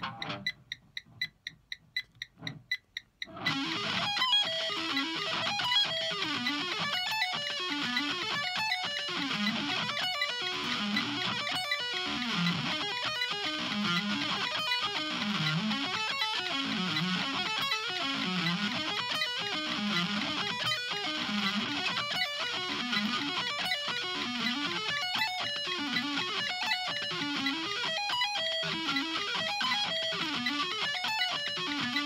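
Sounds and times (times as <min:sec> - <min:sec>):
electric guitar arpeggios: 0:00.0 - 0:00.5, 0:03.3 - 0:32.0
metronome clicking: 0:00.0 - 0:32.0.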